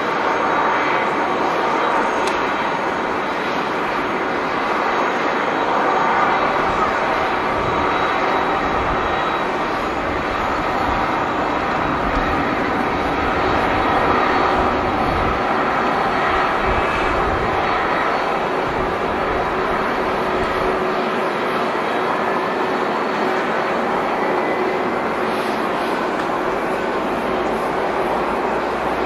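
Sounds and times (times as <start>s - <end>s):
faint steady engine whine: 0.0s - 29.0s
jet engine rumble: 0.0s - 29.0s.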